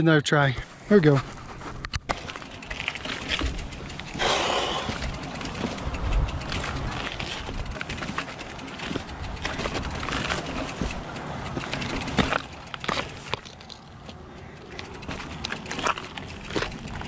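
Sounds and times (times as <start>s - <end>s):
bike rattling and knocking: 1.0s - 17.0s
tyres crunching over stones: 1.0s - 17.0s.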